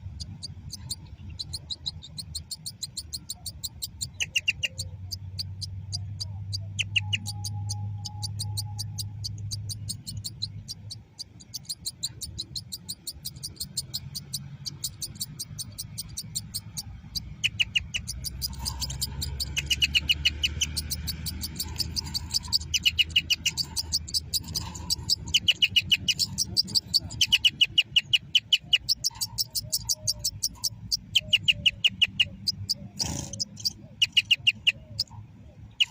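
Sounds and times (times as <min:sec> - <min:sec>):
bird trills: 0:00.0 - 0:35.9
birds chirping: 0:00.0 - 0:35.9.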